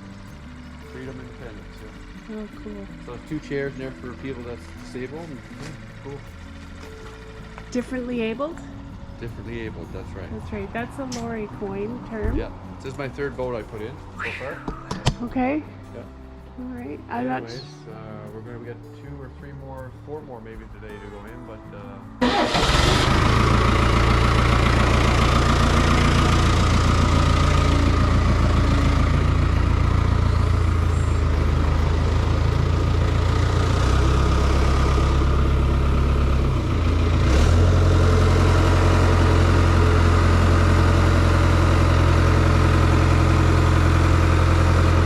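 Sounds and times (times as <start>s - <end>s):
boat lift engine running: 0.0s - 13.9s, 22.2s - 45.0s.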